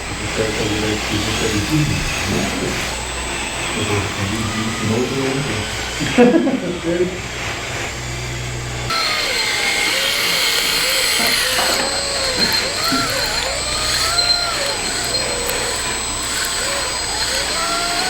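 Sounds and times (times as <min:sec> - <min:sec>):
electric motors whining: 0:00.0 - 0:18.0.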